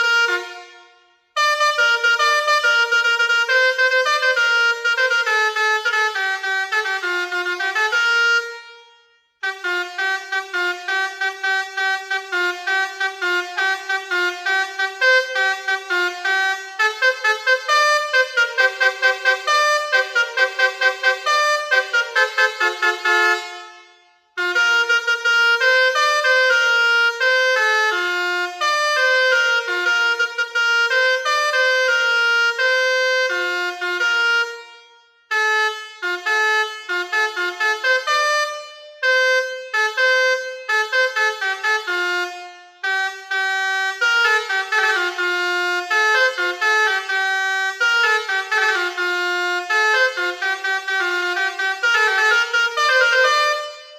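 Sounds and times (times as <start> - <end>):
bus air horn playing melodies: 0.0 - 53.9.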